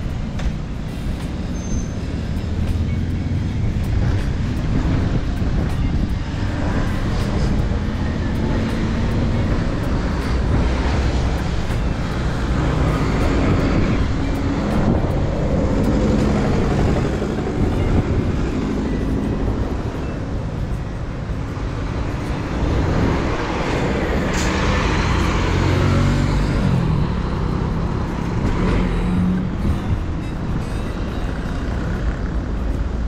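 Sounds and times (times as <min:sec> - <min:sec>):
cars passing: 0:00.0 - 0:33.0
coach engine running: 0:00.0 - 0:33.0.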